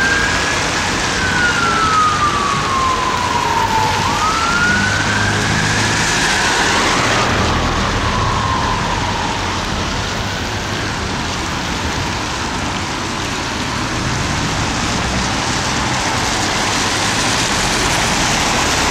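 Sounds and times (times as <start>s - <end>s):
fire engine siren wailing: 0.0s - 18.9s
heavy rain: 0.0s - 18.9s
passing traffic: 0.0s - 18.9s.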